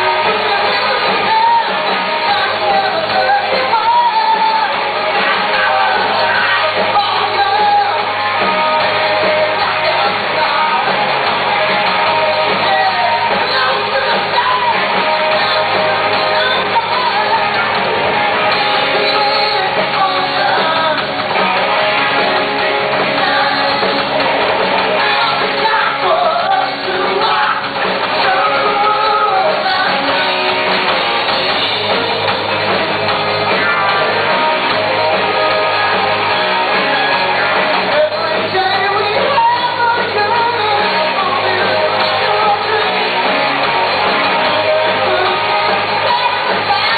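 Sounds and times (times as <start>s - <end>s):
person singing: 0.0s - 17.8s, 18.6s - 21.3s, 21.9s - 24.3s, 24.9s - 30.7s, 33.5s - 46.9s
electric guitar: 0.0s - 46.9s
keyboards: 0.0s - 46.9s
live rock band: 0.0s - 46.9s.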